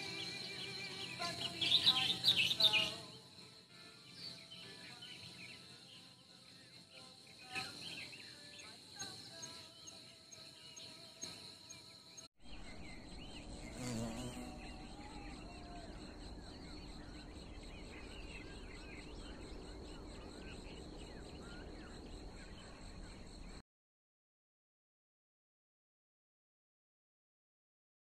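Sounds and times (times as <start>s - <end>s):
insects whining: 0.0s - 23.6s.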